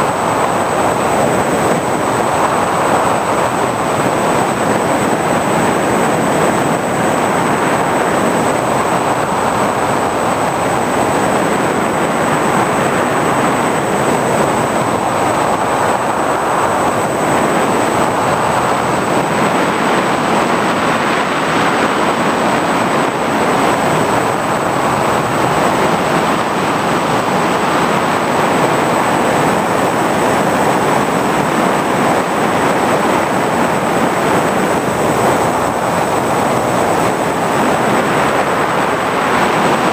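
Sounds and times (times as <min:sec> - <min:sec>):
thin high whine: 0:00.0 - 0:39.9.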